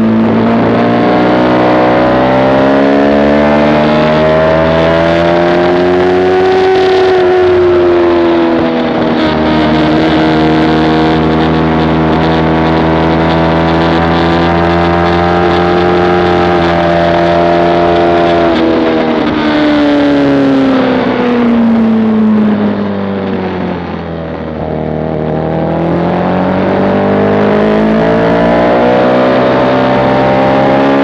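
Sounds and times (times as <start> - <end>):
motorcycle engine at high revs: 0.0 - 31.0.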